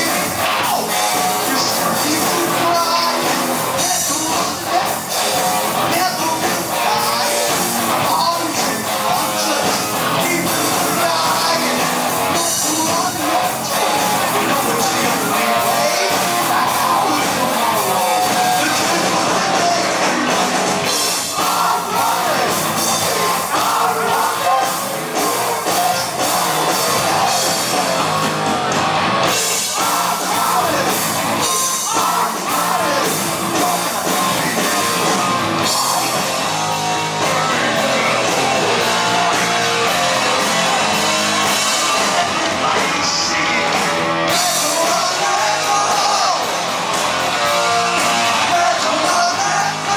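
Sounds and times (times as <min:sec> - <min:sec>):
heavy metal band playing live: 0:00.0 - 0:49.9.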